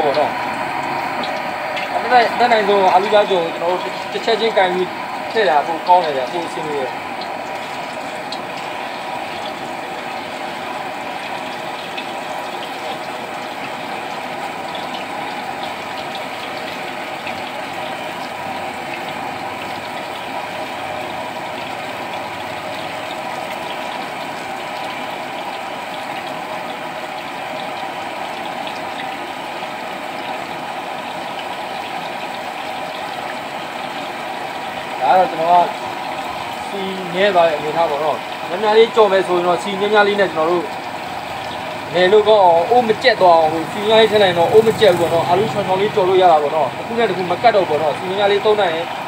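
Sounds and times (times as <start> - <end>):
potato slices sizzling in hot oil: 0.0 - 49.0.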